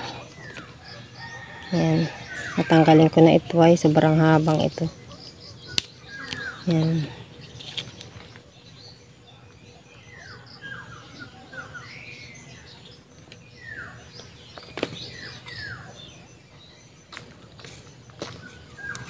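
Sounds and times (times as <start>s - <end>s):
birds chirping downward calls: 0.0s - 19.0s.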